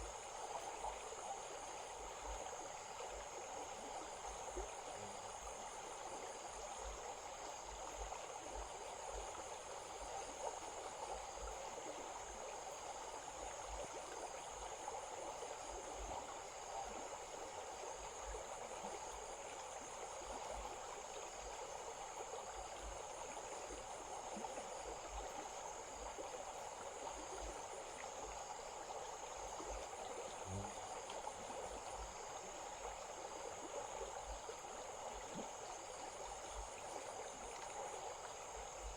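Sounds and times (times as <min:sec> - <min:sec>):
insects trilling: 0:00.0 - 0:38.9
small stream trickling: 0:00.0 - 0:38.9.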